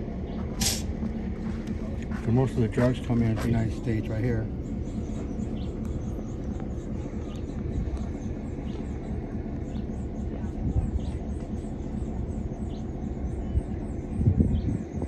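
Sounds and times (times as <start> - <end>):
low rumble: 0.0 - 15.0
small birds chirping: 0.1 - 15.0.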